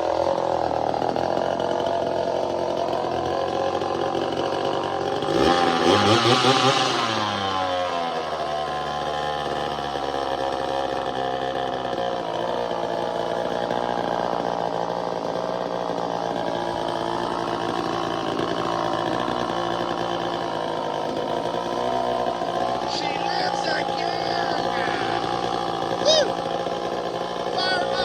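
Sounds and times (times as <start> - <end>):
chainsaw engine idling: 0.0 - 28.0.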